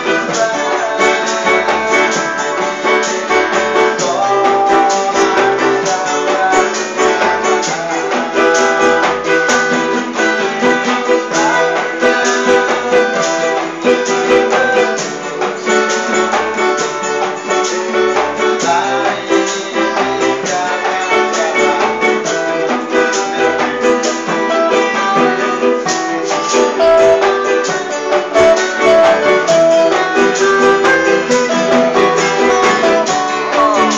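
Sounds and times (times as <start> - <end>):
band playing guitar song: 0.0 - 33.9.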